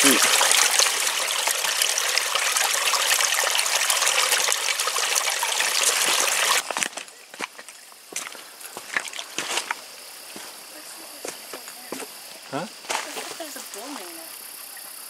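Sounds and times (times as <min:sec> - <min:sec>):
creek trickling over rocks: 0:00.0 - 0:14.5.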